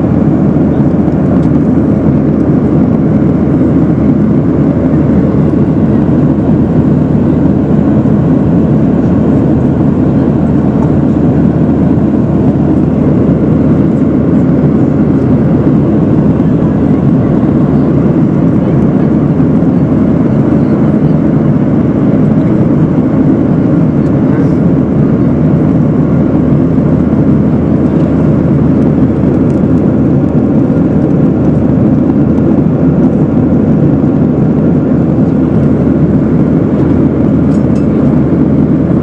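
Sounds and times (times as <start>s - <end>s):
airliner cabin noise: 0.0s - 39.0s.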